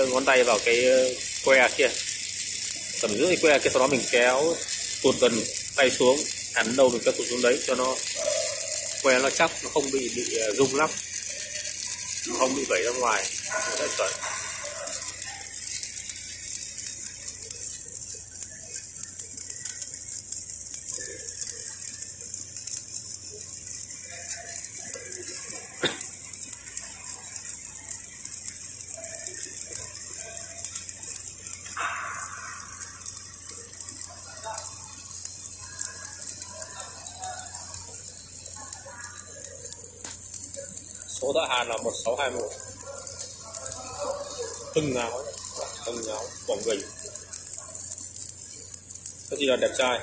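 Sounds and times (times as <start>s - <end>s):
welding arc crackling hiss: 0.0s - 50.0s.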